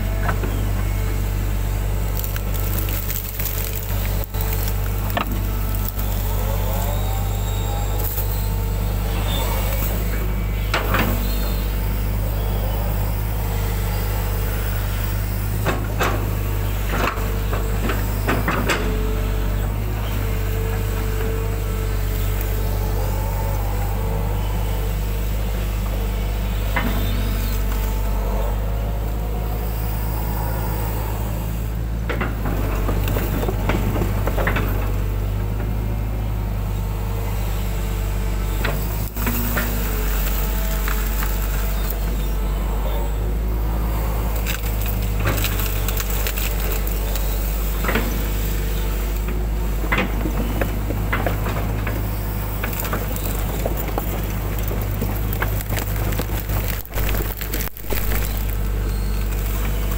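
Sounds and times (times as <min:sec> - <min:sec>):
diesel engine running under load: 0:00.0 - 0:59.9
hydraulics whining: 0:00.0 - 0:59.9.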